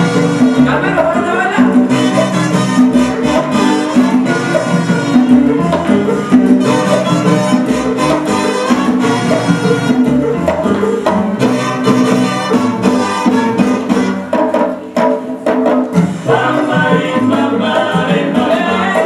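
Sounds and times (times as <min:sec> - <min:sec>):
drums: 0:00.0 - 0:19.0
salsa music: 0:00.0 - 0:19.0.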